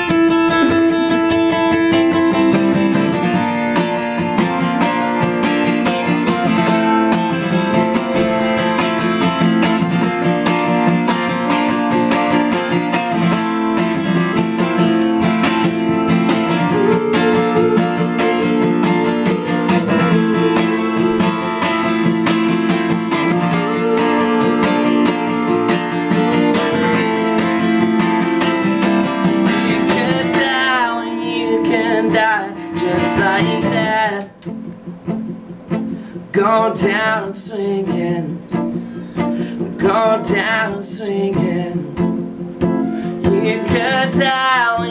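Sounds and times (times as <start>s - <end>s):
acoustic guitar strumming: 0.0s - 44.9s.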